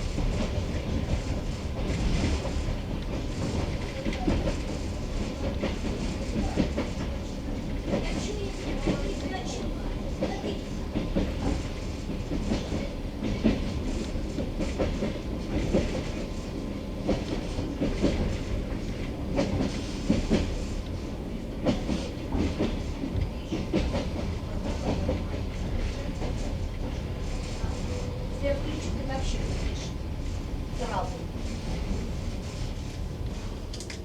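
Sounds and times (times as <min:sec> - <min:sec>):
low train rumble: 0:00.0 - 0:34.0
train wheels clattering on track: 0:00.0 - 0:34.0.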